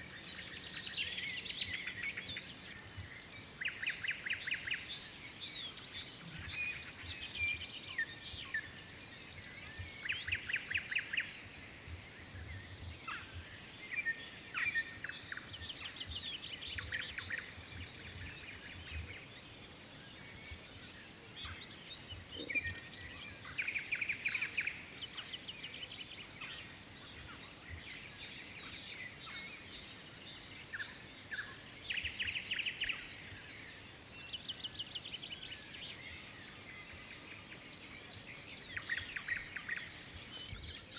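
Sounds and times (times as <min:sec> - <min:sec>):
songbirds warbling and chirping: 0:00.0 - 0:40.9.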